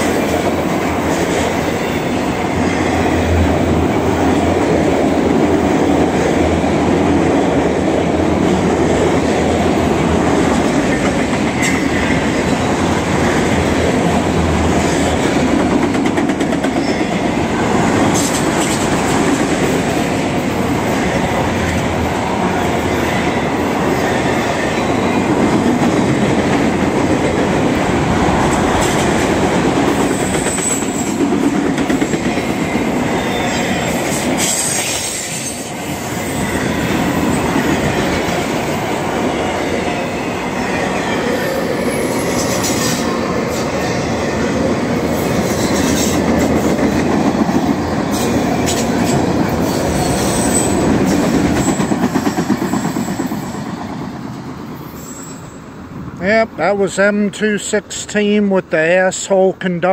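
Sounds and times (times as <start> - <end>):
train wheels rolling on rails: 0.0 - 56.2.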